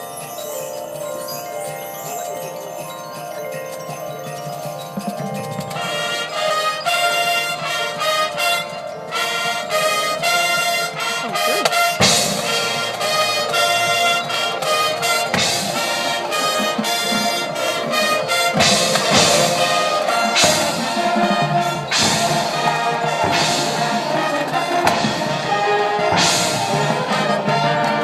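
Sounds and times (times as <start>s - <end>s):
marching band brass playing: 5.5s - 28.0s.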